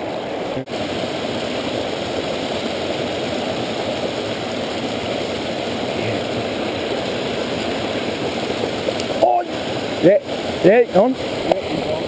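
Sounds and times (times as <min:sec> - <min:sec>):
creek tumbling over rocks: 0:00.0 - 0:12.0.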